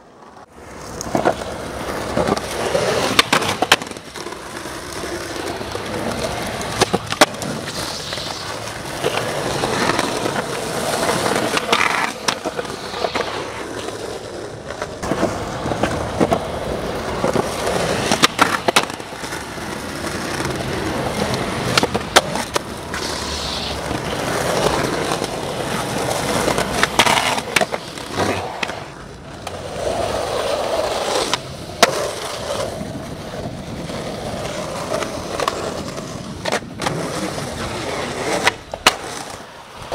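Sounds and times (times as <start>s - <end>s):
skateboard wheels rolling on concrete: 0.0s - 39.9s
skateboard deck clacks: 0.2s - 39.9s.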